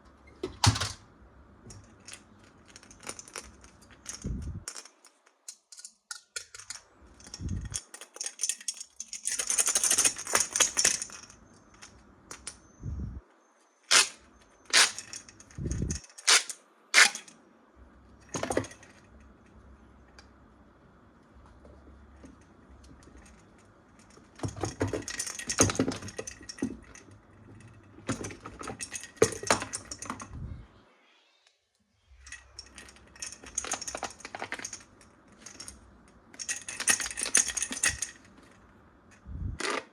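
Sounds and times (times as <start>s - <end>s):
plastic toys rattling and rustling: 1.6s - 12.7s, 13.8s - 17.4s, 18.2s - 19.7s, 22.2s - 30.4s, 32.2s - 39.9s.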